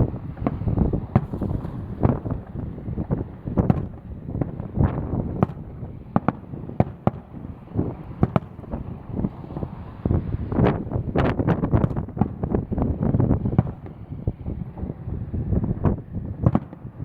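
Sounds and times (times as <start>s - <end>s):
fireworks bangs and cracks: 0.0s - 17.0s
wind buffeting microphone: 0.0s - 17.0s.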